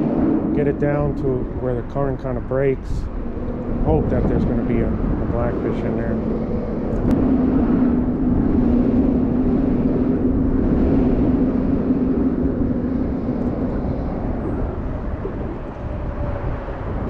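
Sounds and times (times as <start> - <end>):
engine drone: 0.0 - 17.0
low rumble: 0.0 - 17.0.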